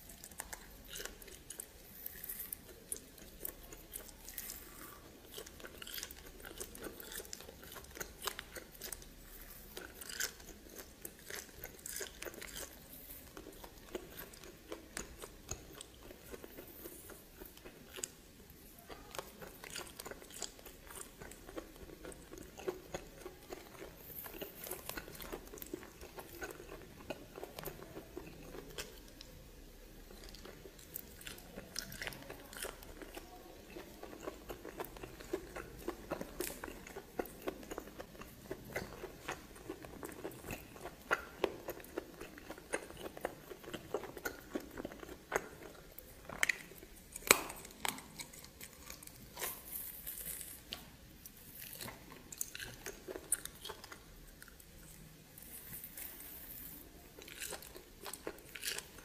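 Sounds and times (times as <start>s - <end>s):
food crunching: 0.0s - 59.0s
person chewing food: 0.0s - 59.0s.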